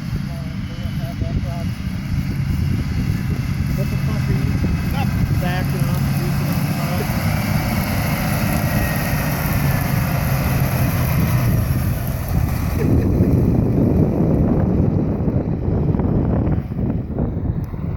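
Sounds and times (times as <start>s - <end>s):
machinery engine humming: 0.0s - 17.9s
wind buffeting microphone: 0.0s - 17.9s.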